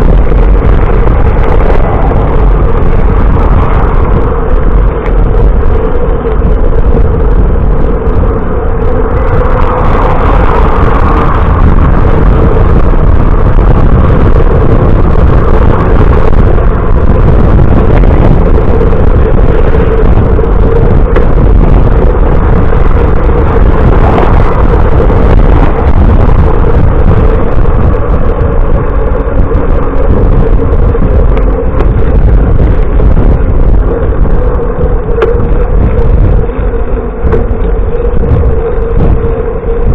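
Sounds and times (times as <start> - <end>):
constant hum: 0.0 - 39.9
road noise: 0.0 - 39.9
wind rumble on microphone: 0.0 - 39.9.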